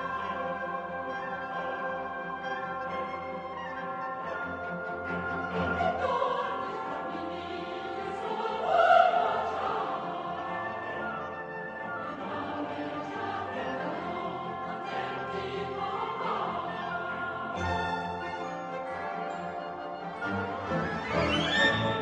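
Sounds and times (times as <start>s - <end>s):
choir singing: 0.0s - 22.0s
orchestra playing: 0.0s - 22.0s.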